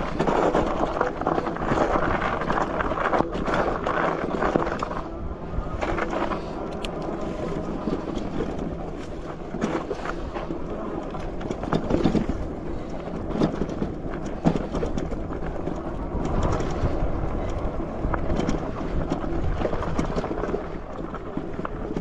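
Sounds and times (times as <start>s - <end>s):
bike knocks and rattles: 0.0s - 5.0s, 7.6s - 22.0s
wind rushing over microphone: 0.0s - 22.0s.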